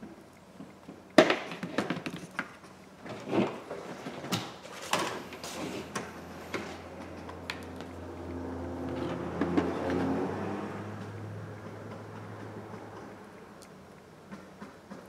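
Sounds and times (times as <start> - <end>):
low hum with held tones: 0.0 - 14.9.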